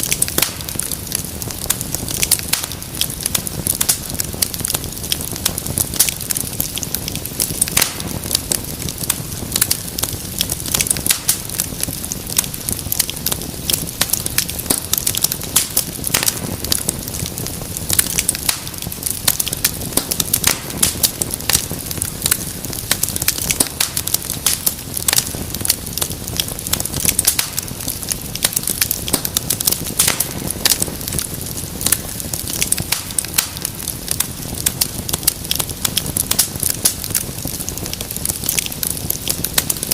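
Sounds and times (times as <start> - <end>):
fire crackling: 0.0 - 39.9
low rush of flame: 0.0 - 39.9.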